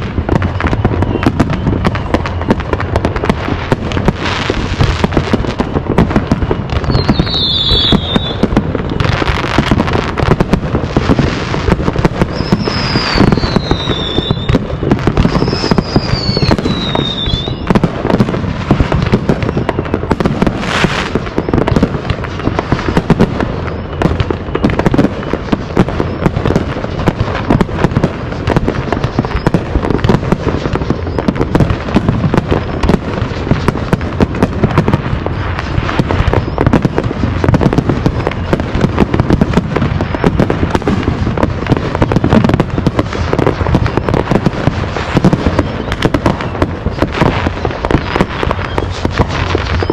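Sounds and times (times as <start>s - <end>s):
falling firework whistle: 0.0s - 49.9s
fireworks bangs and crackling: 0.0s - 49.9s.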